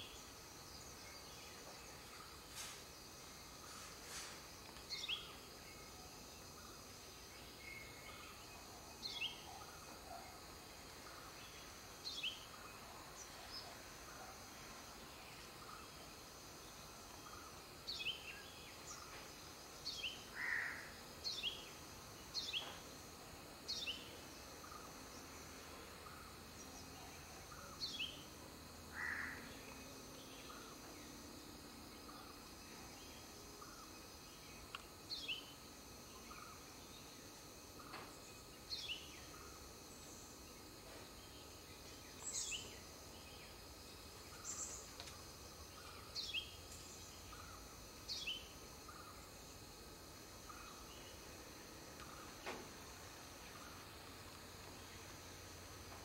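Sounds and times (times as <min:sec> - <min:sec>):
insect hum: 0:00.0 - 0:56.0.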